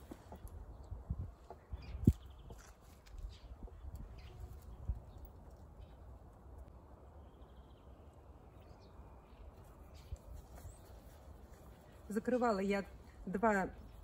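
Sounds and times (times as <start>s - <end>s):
faint songbird chirps: 0.0s - 6.4s, 7.0s - 14.0s.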